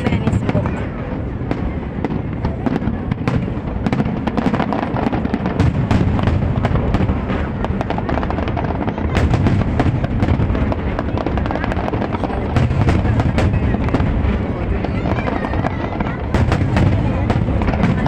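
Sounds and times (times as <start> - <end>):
fireworks bursts and crackle: 0.0 - 18.0.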